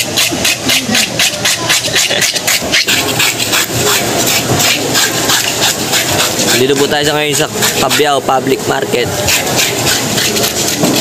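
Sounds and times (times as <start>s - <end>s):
scaler scraping fish scales: 0.0s - 11.0s.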